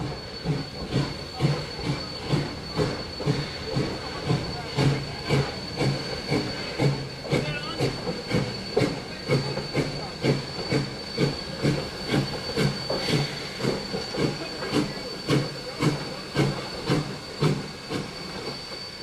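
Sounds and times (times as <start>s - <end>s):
high-pitched steam hiss: 0.0s - 19.0s
steam locomotive chuffing: 0.0s - 19.0s.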